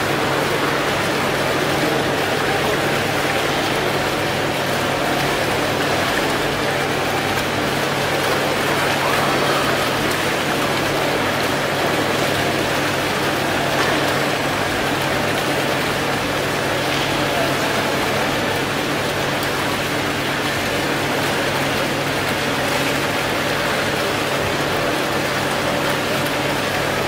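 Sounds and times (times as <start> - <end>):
fountain water splashing into pool: 0.0 - 27.0.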